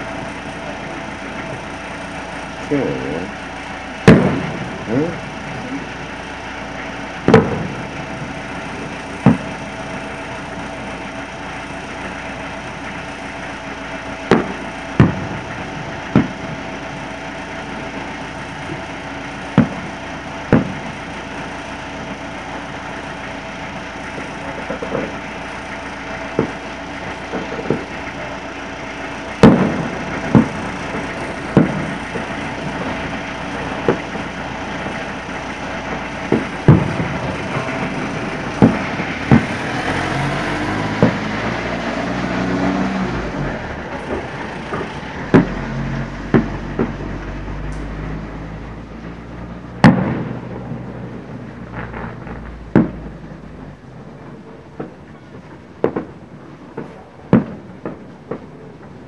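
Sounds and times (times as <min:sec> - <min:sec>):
distant fireworks bangs: 0:00.0 - 0:59.0.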